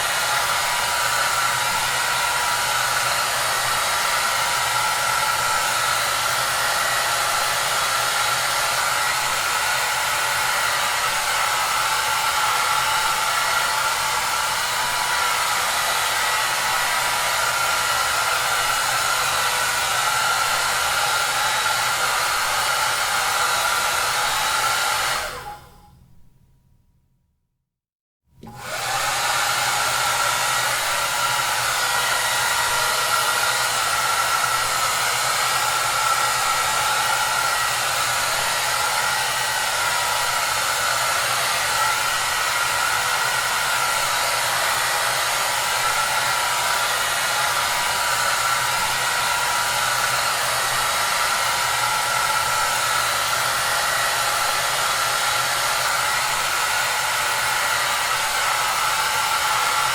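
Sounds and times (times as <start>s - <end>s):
hair dryer running: 0.0s - 25.9s, 28.4s - 59.9s.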